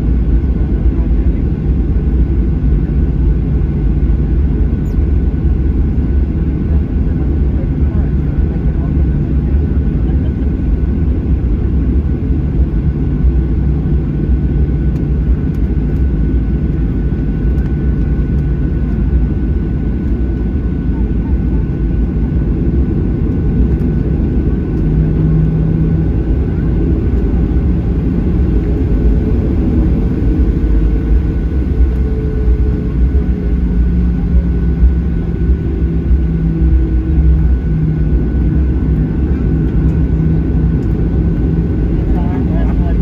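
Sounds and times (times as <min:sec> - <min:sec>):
airplane cabin rumble: 0:00.0 - 0:43.0
jet engine whine: 0:00.0 - 0:43.0.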